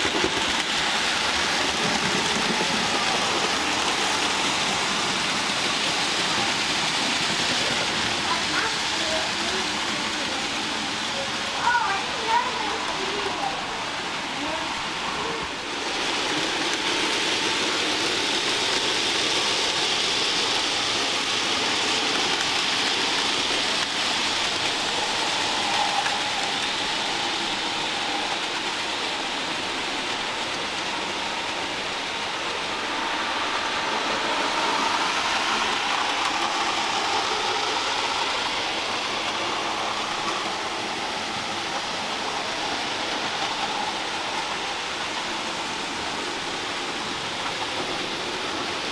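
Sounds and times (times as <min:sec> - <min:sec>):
model trains whirring and rolling: 0:00.0 - 0:48.9.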